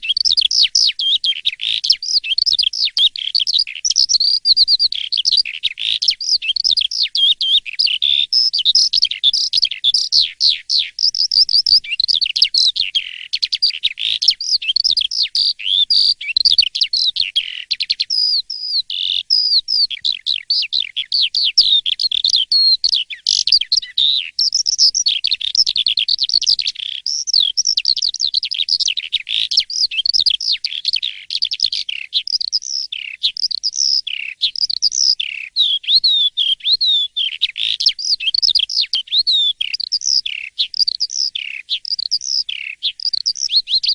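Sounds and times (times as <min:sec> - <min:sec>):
starling singing: 0:00.0 - 0:43.9.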